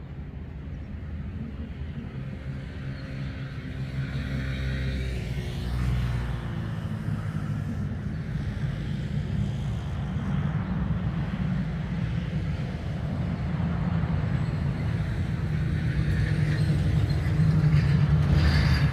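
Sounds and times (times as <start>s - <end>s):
low rumble of passing vehicles: 0.0s - 18.9s.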